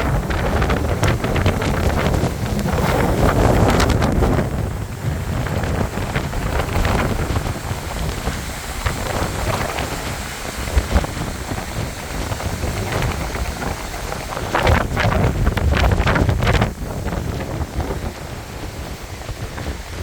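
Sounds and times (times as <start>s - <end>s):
heavy rain: 0.0s - 20.0s
wind buffeting microphone: 0.0s - 20.0s.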